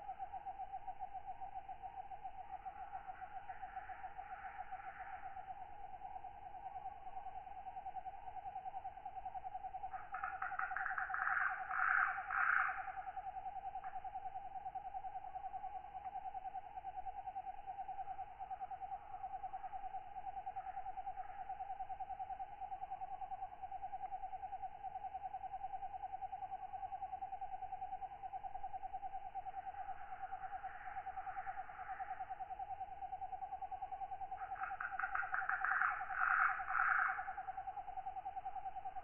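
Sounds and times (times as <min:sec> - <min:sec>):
night insects trilling: 0:00.0 - 0:39.0.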